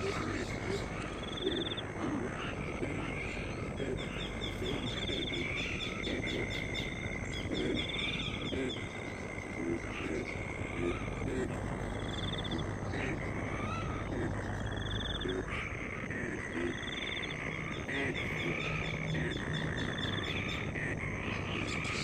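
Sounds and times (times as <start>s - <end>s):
frogs croaking: 0.0s - 22.0s
pulsed insect trills: 0.0s - 22.0s
steady high drone: 0.0s - 22.0s.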